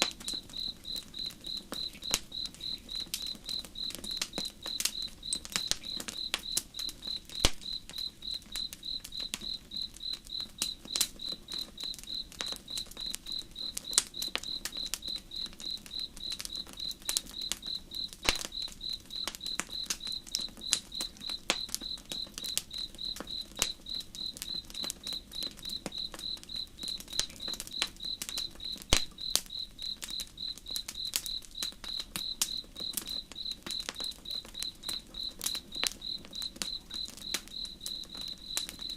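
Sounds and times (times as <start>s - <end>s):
campfire crackling and popping: 0.0s - 38.9s
cricket chirping: 0.0s - 38.9s.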